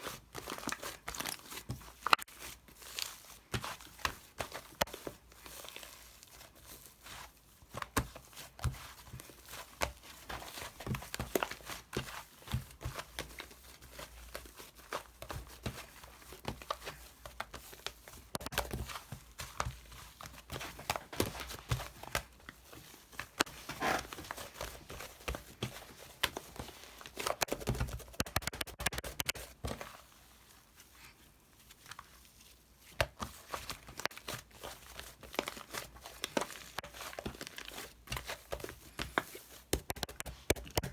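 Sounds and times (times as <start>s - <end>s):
paper crinkling and scratching: 0.0s - 30.7s, 31.7s - 40.9s.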